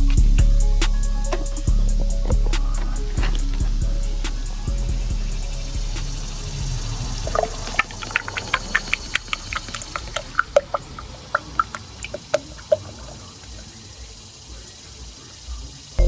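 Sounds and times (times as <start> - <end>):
liquid glugging from a bottle: 0.0 - 13.9.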